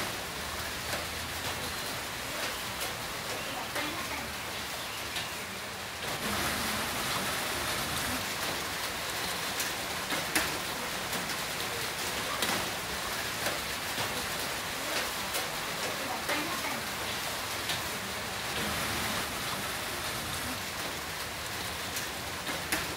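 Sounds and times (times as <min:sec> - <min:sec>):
heavy rain pouring: 0:00.0 - 0:22.9
raindrops tapping a surface: 0:00.0 - 0:22.9.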